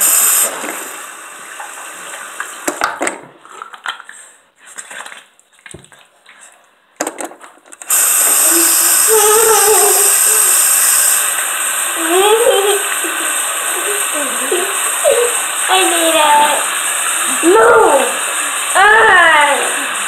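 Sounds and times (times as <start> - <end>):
tap water running into sink: 0.0 - 6.1, 7.0 - 20.0.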